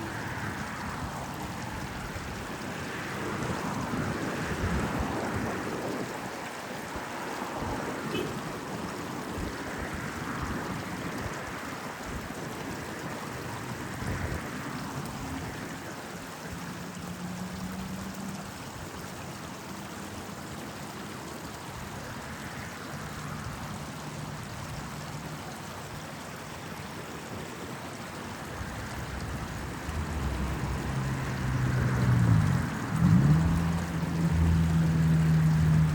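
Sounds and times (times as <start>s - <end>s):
road traffic: 0.0s - 35.9s
small stream flowing: 0.0s - 35.9s.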